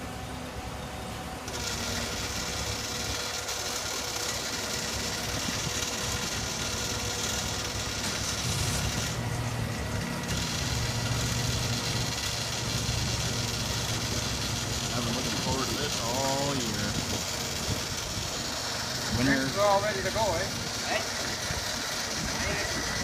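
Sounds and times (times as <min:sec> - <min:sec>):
boat lift engine running: 0:00.0 - 0:23.0.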